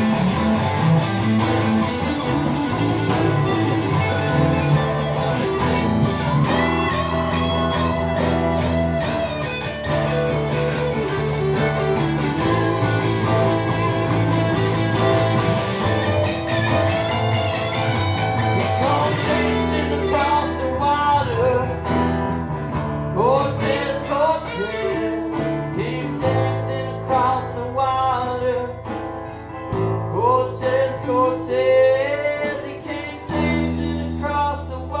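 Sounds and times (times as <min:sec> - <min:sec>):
bass guitar: 0:00.0 - 0:35.0
drums: 0:00.0 - 0:35.0
electric guitar lead bending notes: 0:00.0 - 0:35.0
strummed acoustic guitar: 0:00.0 - 0:35.0.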